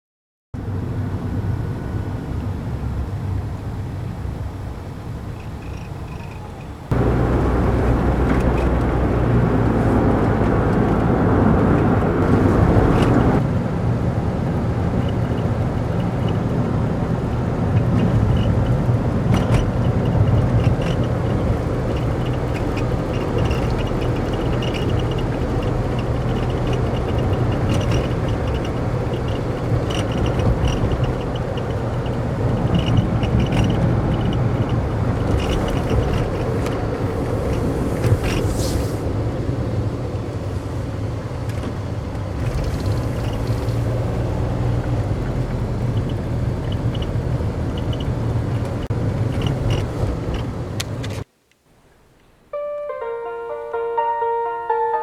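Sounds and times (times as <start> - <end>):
road and engine noise: 0.6 - 51.4.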